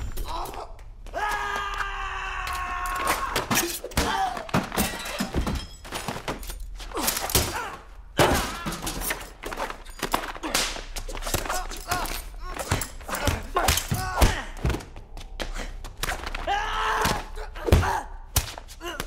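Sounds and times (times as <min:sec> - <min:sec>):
punches thudding and smacking: 0:03.2 - 0:19.0.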